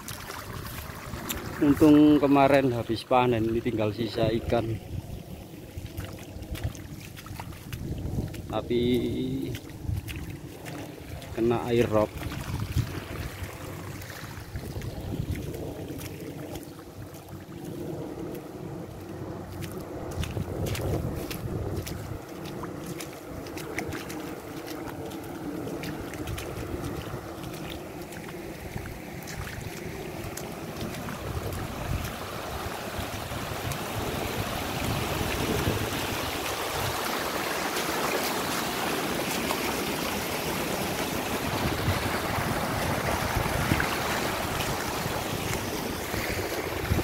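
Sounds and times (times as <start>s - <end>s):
floodwater rushing: 0.0s - 47.0s
wind buffeting microphone: 0.0s - 47.0s.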